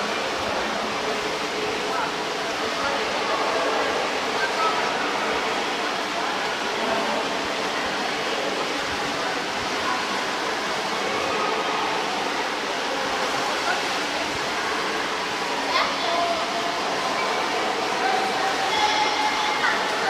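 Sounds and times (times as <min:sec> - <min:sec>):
faint indistinct voices: 0:00.0 - 0:20.0
water splashing: 0:00.0 - 0:20.0.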